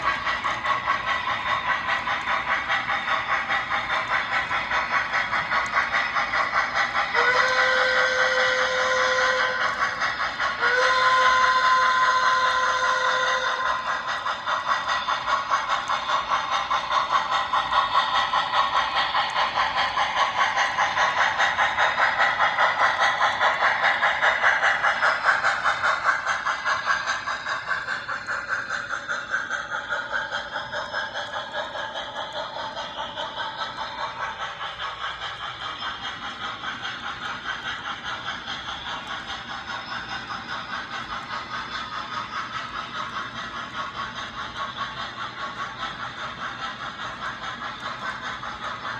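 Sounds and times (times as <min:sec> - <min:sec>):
train wheels clattering: 0:00.0 - 0:48.9.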